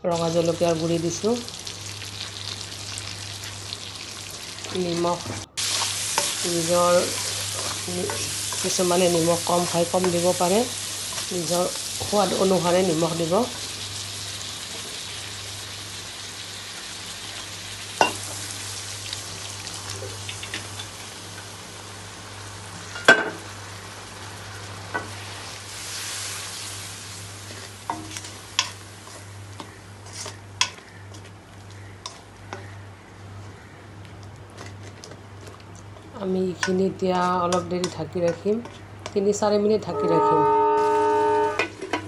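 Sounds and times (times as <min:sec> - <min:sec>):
masala sizzling in oil: 0:00.1 - 0:42.0.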